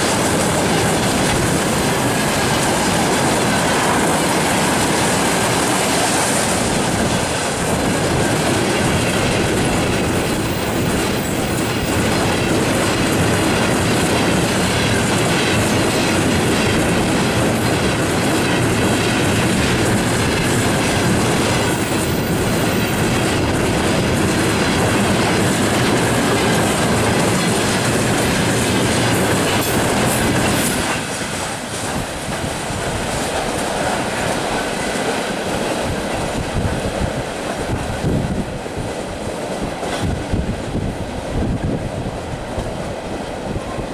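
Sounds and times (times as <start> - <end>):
freight train wheels clattering: 0.0 - 43.9.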